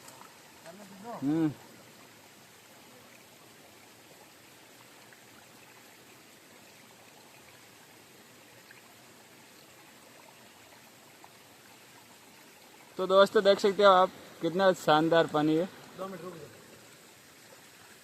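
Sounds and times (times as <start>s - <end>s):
faint flowing water: 0.0s - 18.0s.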